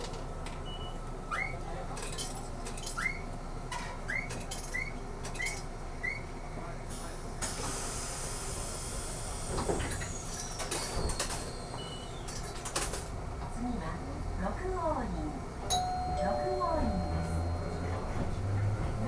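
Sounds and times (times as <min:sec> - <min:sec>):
tram rumbling: 0:00.0 - 0:19.0.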